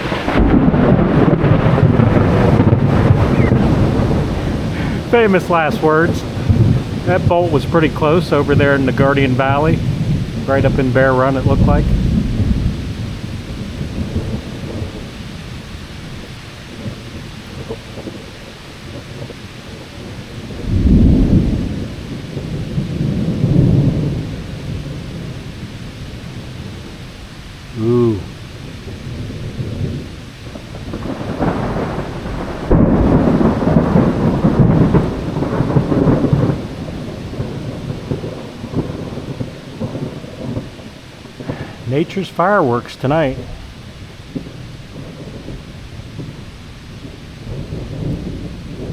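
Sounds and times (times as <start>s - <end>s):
rain hissing: 0.0s - 48.9s
rolling thunder: 0.0s - 48.9s.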